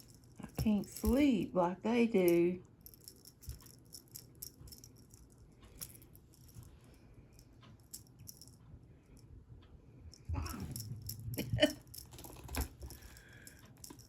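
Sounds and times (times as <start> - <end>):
light clicks and rattles: 0.0 - 14.0
low room hum: 0.0 - 14.0.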